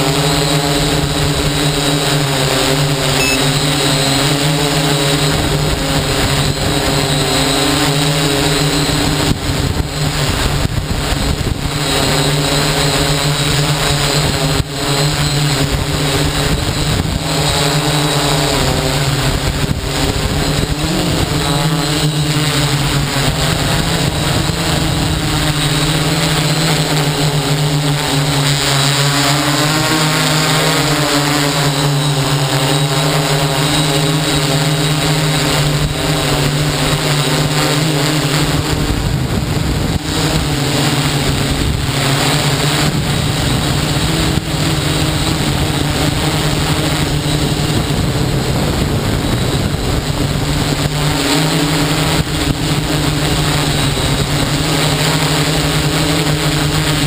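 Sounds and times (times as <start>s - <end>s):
drone propellers humming: 0.0s - 57.0s.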